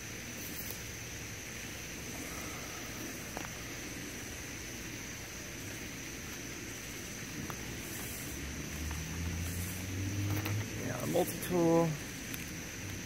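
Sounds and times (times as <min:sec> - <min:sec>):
night insects droning: 0:00.0 - 0:13.0.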